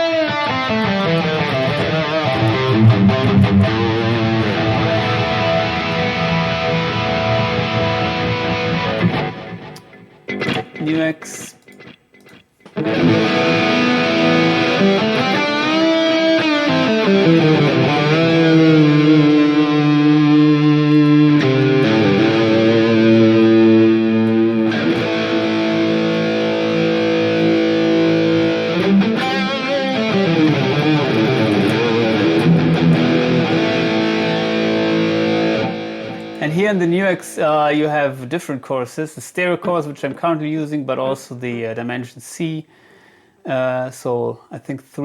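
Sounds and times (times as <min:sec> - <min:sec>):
electric guitar with chorus effect: 0:00.0 - 0:37.3.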